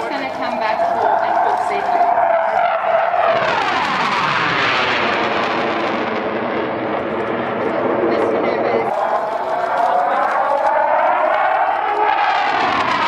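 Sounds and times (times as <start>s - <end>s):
jet passing overhead: 0.0s - 13.0s.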